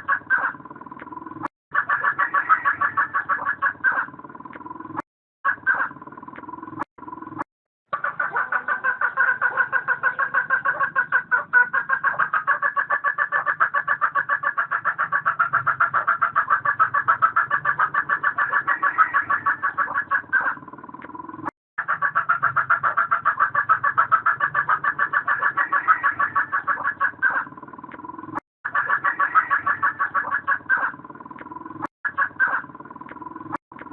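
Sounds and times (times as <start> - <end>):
hens cackling: 0.0 - 6.9, 7.9 - 33.9.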